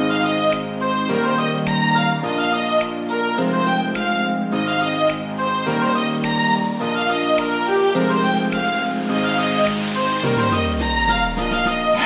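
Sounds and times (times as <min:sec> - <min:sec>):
violin-like background music: 0:00.0 - 0:12.0.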